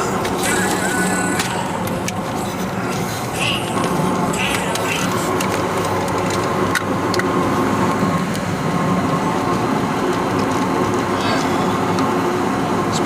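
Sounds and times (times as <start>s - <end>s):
car engine hum: 0.0s - 13.0s
road noise inside car: 0.0s - 13.0s.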